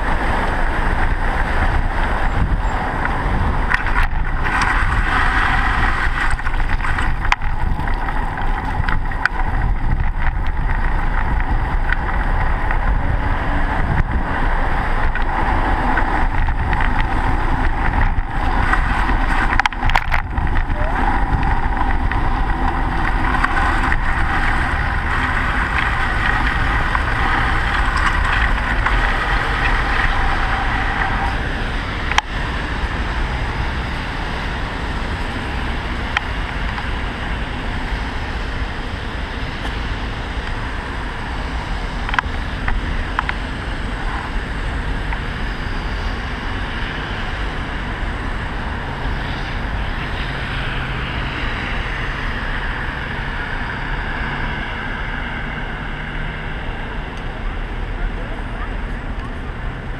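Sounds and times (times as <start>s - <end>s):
bicycle tyres whirring on snow: 0.0s - 59.9s
city traffic rumble: 0.0s - 59.9s
wind rushing over microphone: 0.0s - 59.9s.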